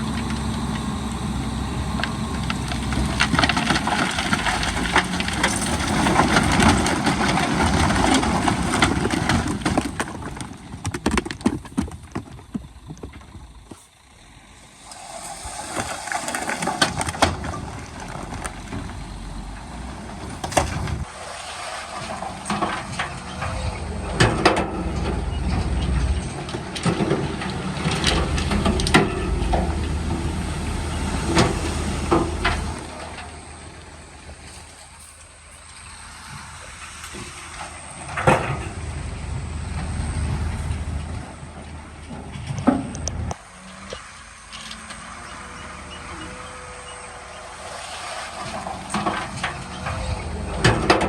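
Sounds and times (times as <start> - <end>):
rock crunching: 0.0 - 46.1
heavy diesel engine under load: 0.0 - 51.0.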